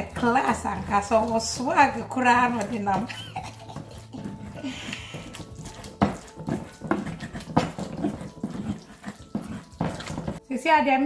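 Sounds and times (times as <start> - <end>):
wooden pestle scraping clay bowl: 0.0 - 10.4.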